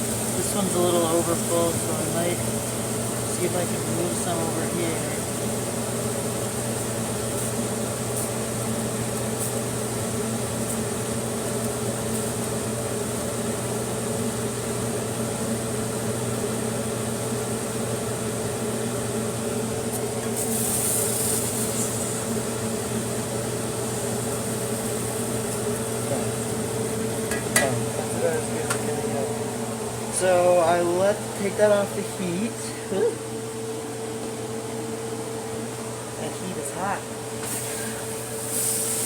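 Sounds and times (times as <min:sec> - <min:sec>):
mechanical hum: 0:00.0 - 0:39.0.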